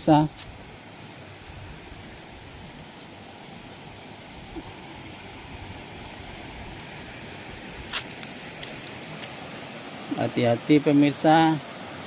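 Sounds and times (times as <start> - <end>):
waterfall rushing: 0.8 - 12.0.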